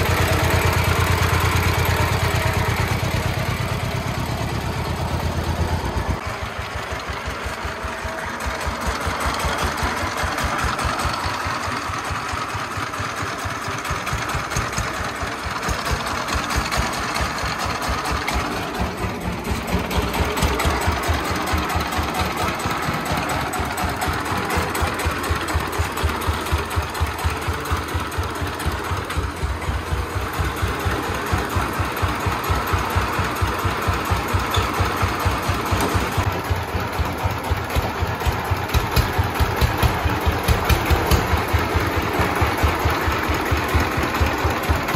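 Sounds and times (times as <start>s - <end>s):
diesel engine chugging: 0.0s - 44.9s.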